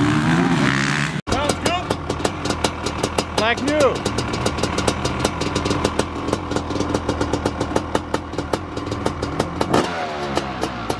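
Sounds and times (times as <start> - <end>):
exhaust popping: 0.0 - 10.9
motorbike engine idling: 1.3 - 10.9.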